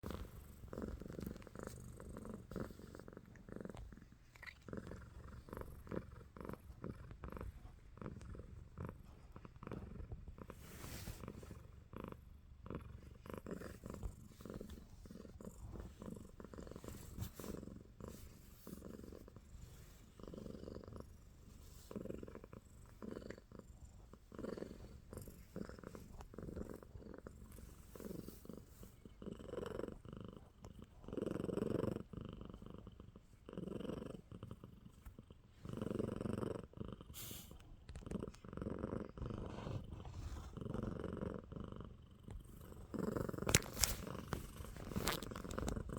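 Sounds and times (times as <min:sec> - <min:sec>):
cat purring: 0:00.0 - 0:45.9.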